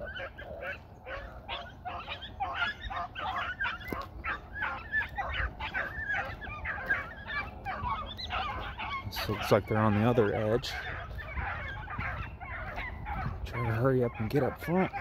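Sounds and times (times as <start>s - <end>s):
dogs baying and yelping: 0.0s - 15.0s.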